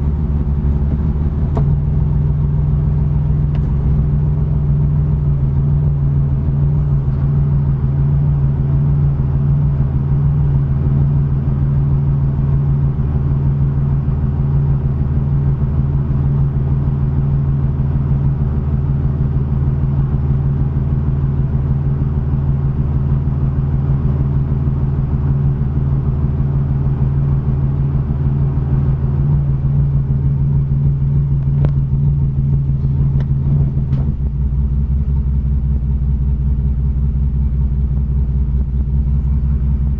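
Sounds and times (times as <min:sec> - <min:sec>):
car engine idling roughly: 0:00.0 - 0:39.9
deep engine rumble: 0:00.0 - 0:39.9.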